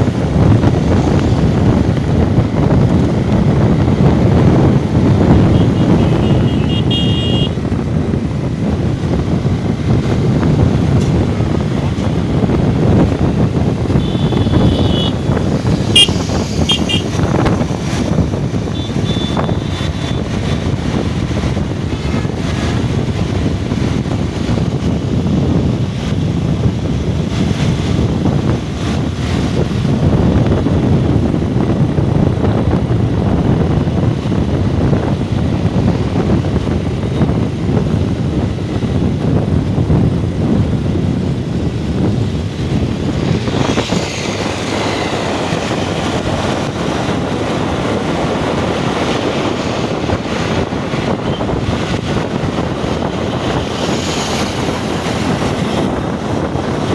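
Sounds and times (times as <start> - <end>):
vehicle rumble: 0.0 - 56.9
wind buffeting microphone: 0.0 - 56.9.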